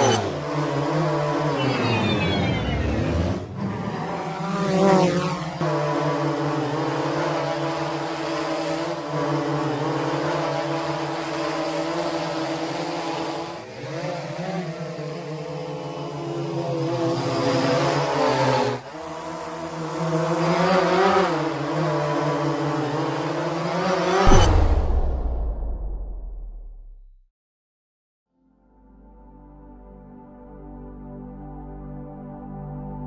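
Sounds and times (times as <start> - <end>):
drone propellers buzzing: 0.0 - 26.5.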